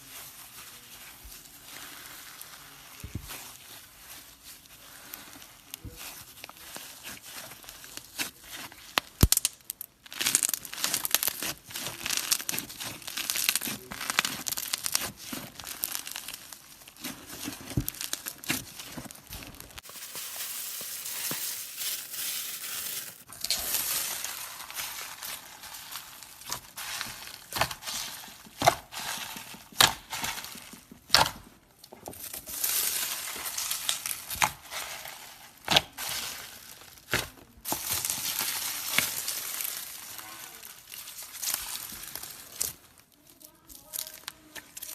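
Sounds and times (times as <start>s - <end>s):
slime crackling and popping: 0.1s - 44.9s.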